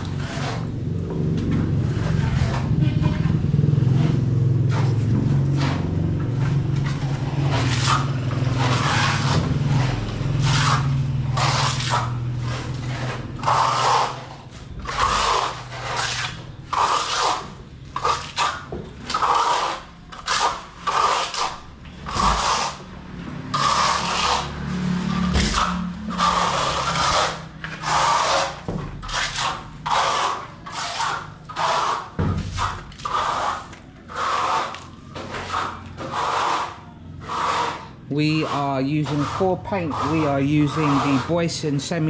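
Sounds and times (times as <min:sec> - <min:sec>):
hand tool scraping a wall: 0:00.0 - 0:42.0.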